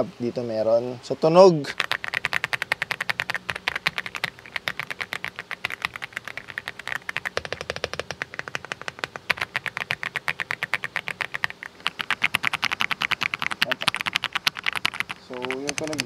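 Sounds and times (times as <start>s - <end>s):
mechanical keyboard typing: 1.7s - 16.0s.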